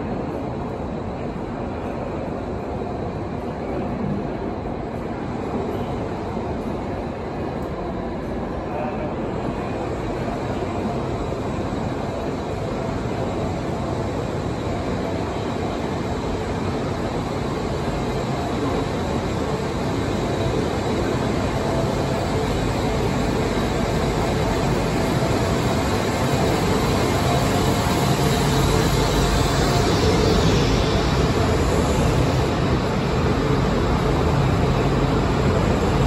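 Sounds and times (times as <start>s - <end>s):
subway train wheels rumbling on rail: 0.0s - 36.0s.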